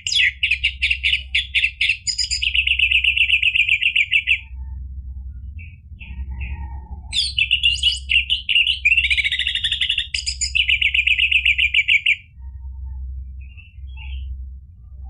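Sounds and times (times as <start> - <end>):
thrush singing trills: 0.0 - 15.0.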